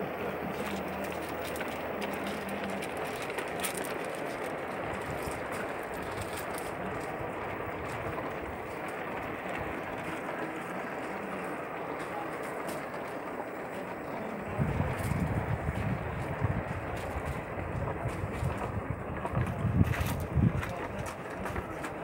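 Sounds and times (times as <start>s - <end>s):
model train wheels rumbling: 0.0s - 22.0s.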